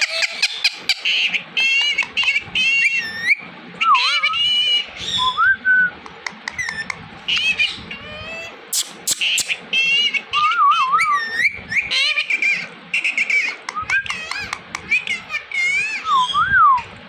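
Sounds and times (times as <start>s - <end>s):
parrot chirps and squawks: 0.0s - 5.4s, 6.1s - 16.4s
parrot whistles: 0.0s - 16.9s.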